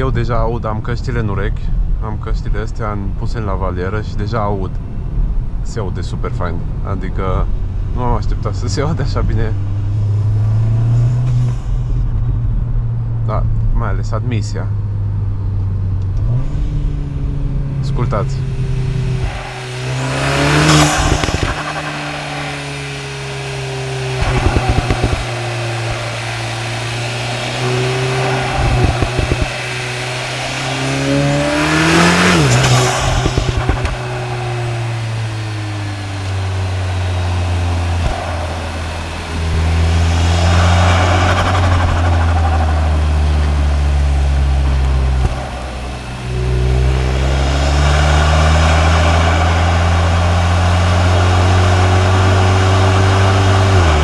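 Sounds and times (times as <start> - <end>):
turbocharged car engine revving: 0.0 - 54.0.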